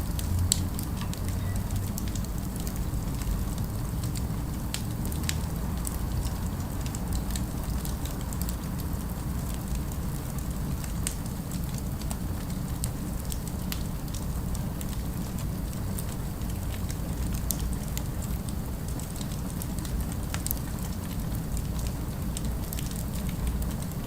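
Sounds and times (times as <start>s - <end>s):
fireplace crackling and popping: 0.0s - 24.0s
low rumble of city ambience: 0.0s - 24.0s.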